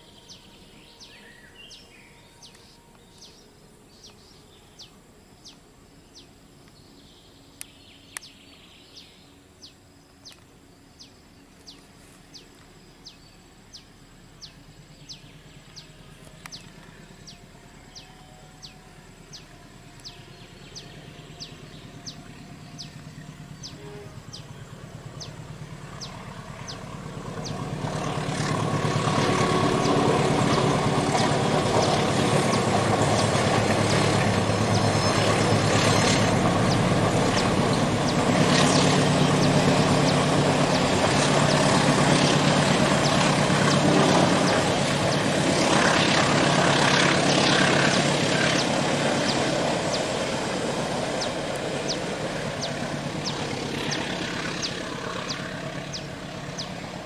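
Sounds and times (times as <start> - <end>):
diesel locomotive engine: 0.0 - 57.0
train running noise: 0.0 - 57.0.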